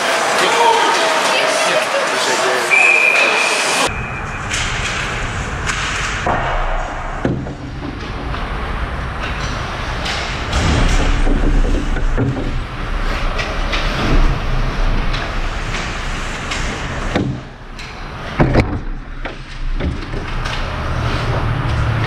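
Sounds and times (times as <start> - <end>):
rumbling rink din: 0.0 - 22.0.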